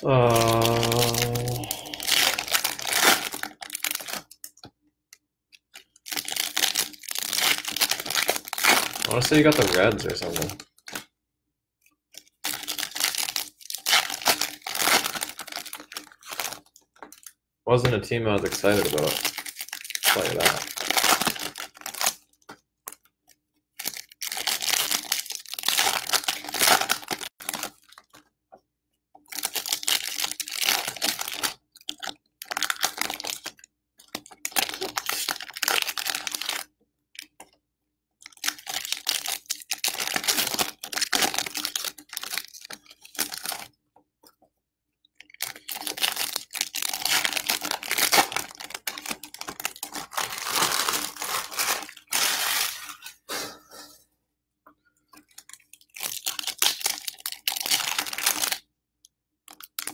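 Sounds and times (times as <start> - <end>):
foil wrappers tearing and crinkling: 0.1 - 4.4, 5.8 - 11.0, 12.2 - 17.3, 18.4 - 22.2, 23.8 - 28.0, 29.3 - 37.3, 38.2 - 43.7, 45.3 - 53.9, 55.3 - 58.6, 59.5 - 59.9.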